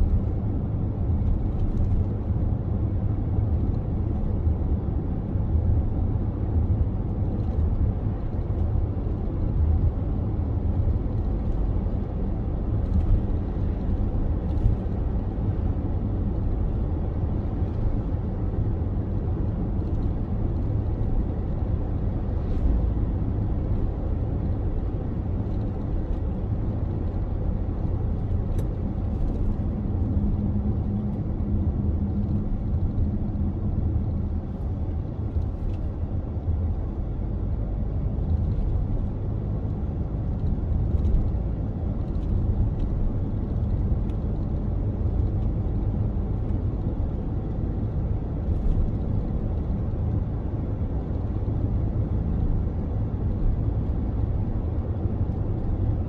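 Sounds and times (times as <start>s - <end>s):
car engine rumble: 0.0s - 56.0s
tyre road noise: 0.0s - 56.0s.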